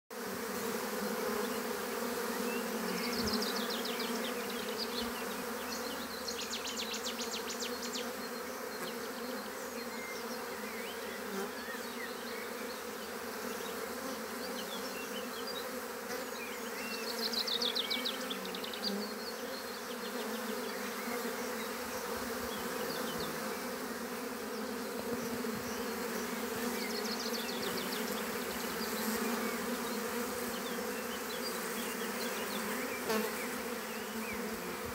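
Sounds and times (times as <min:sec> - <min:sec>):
bees buzzing: 0:00.1 - 0:34.9.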